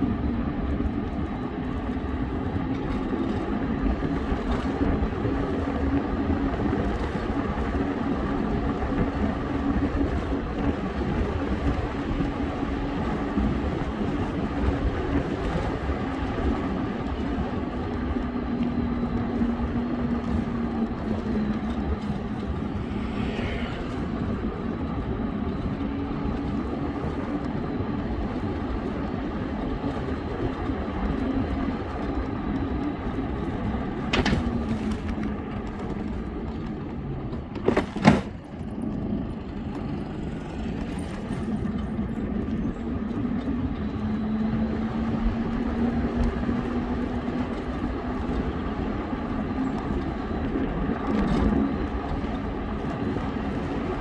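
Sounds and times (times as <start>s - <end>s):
engine-like hum: 0.0s - 54.0s
wind and road noise: 0.0s - 54.0s.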